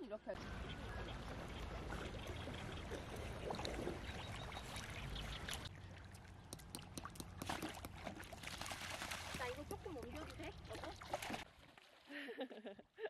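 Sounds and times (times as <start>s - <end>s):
water sloshing and lapping: 0.4s - 12.3s
small splashes: 0.8s - 12.4s.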